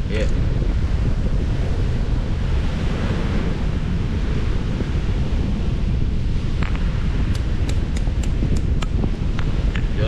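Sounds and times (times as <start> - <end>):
rough sea surf: 0.0 - 10.0
wind buffeting microphone: 0.0 - 10.0.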